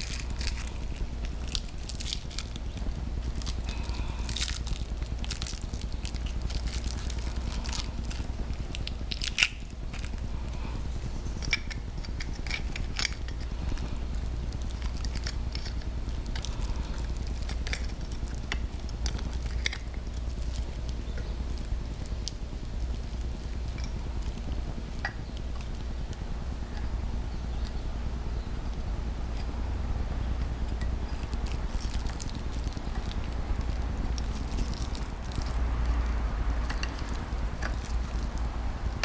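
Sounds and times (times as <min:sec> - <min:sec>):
low hum: 0:00.0 - 0:39.0.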